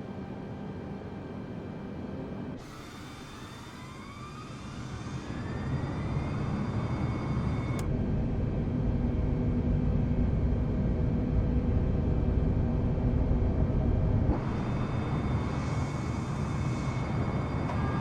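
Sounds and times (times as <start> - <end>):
jet engine low roar: 0.0 - 18.0
jet engine whine: 0.0 - 18.0.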